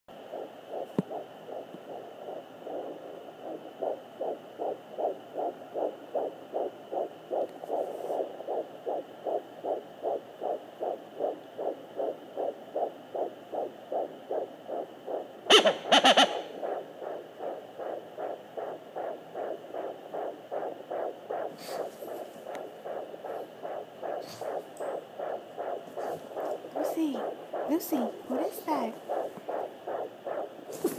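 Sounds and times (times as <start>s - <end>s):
faint steady hiss: 0.1s - 30.9s
fetal heartbeat on doppler: 0.1s - 30.9s.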